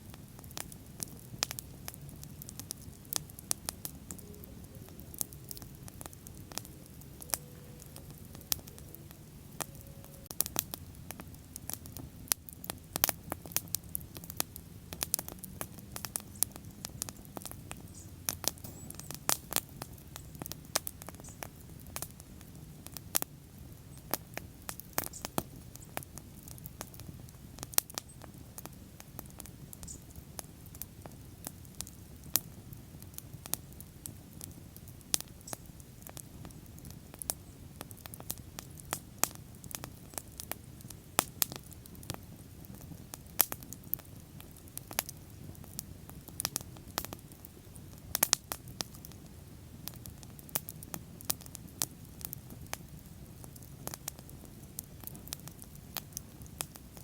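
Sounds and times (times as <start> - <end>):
bonfire crackling: 0.0 - 57.0.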